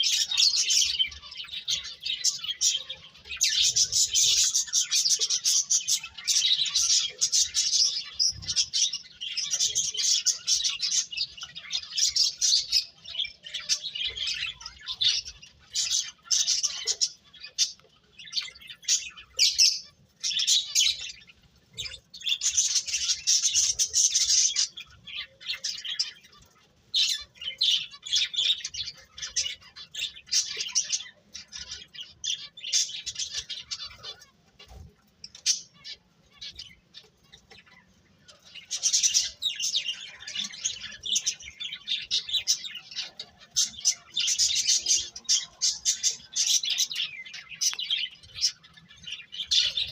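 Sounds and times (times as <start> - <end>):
birds chirping and twittering: 0.0 - 49.9.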